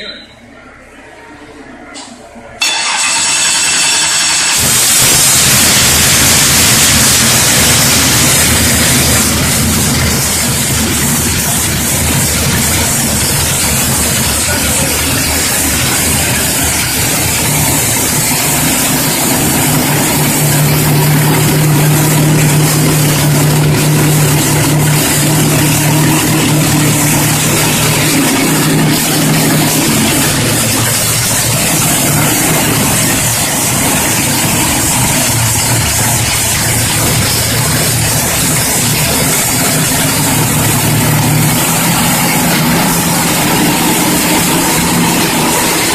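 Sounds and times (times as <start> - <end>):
race engine idling rumble: 4.7 - 45.9.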